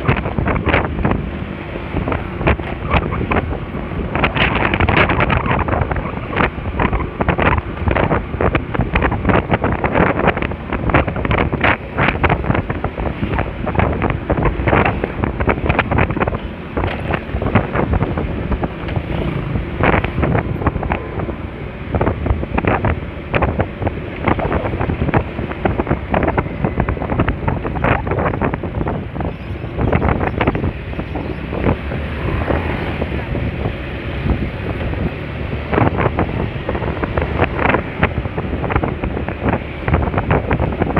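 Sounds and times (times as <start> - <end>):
road noise: 0.0 - 40.9
wind buffeting microphone: 0.0 - 40.9.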